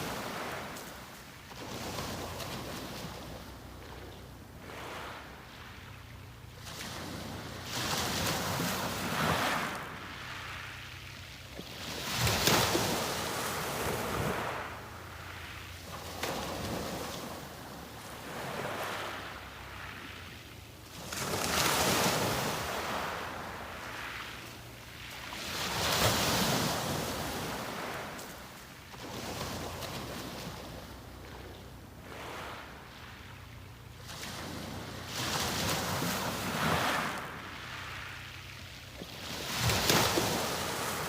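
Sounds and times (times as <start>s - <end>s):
sea waves breaking on beach: 0.0s - 41.0s.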